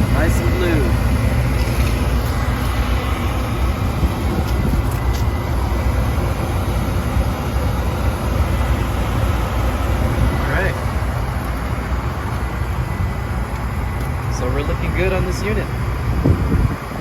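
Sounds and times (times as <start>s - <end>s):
gas heater burners and motor rumble: 0.0s - 17.0s.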